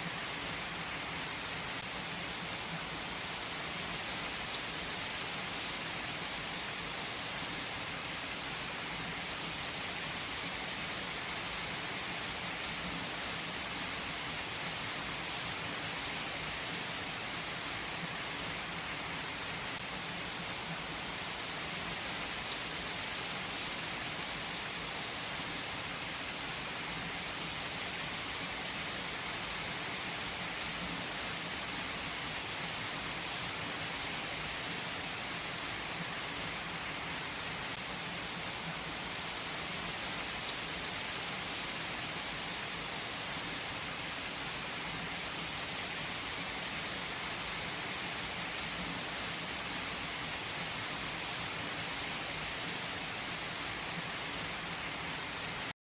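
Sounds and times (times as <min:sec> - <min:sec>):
heavy rain on trees: 0:00.0 - 0:55.8.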